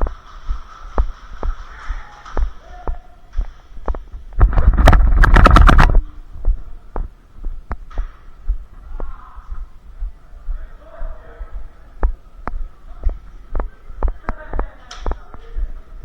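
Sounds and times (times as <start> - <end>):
footsteps and gear thumps: 0.0 - 10.6, 12.0 - 15.7.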